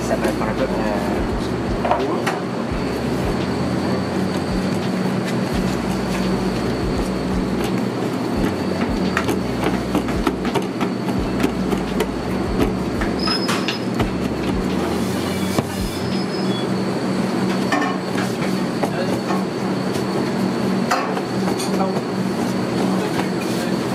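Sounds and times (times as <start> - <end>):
machine hum: 0.0 - 23.9
thin high whine: 0.0 - 23.9.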